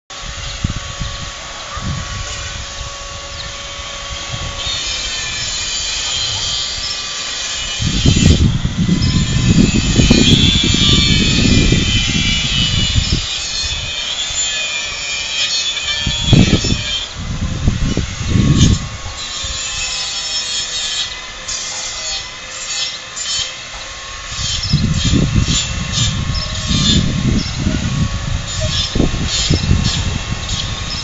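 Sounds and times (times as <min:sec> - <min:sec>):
wind gusting on microphone: 0:00.1 - 0:15.2, 0:15.8 - 0:20.0, 0:23.9 - 0:31.0.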